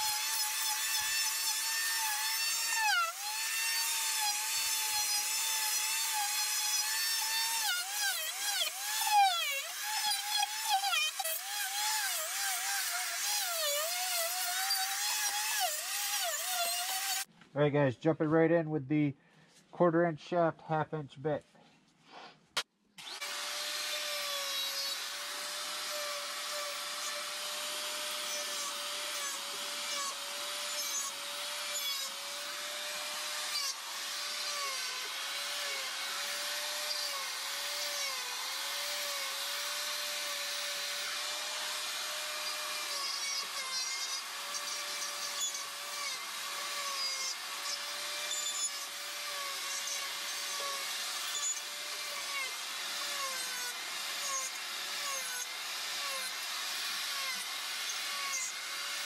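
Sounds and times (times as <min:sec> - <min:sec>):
die grinder grinding wood: 0:00.0 - 0:17.3, 0:22.1 - 0:59.0.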